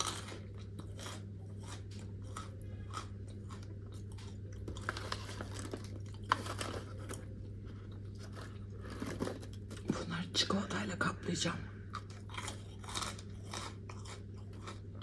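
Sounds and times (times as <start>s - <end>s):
crunching and chewing: 0.0s - 10.0s, 11.8s - 15.0s.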